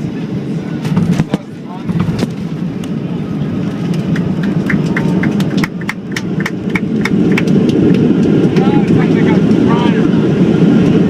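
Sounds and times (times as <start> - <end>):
airplane engines and airflow rush: 0.0 - 11.0.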